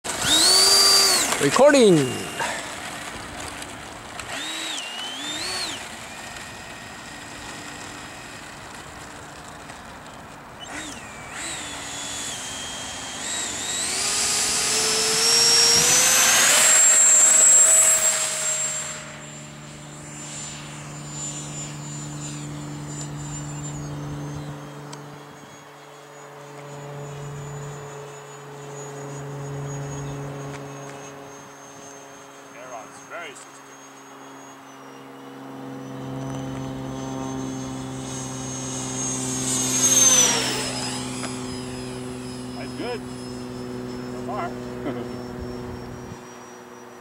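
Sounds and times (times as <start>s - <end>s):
ducted fan motor whine: 0.0s - 47.0s.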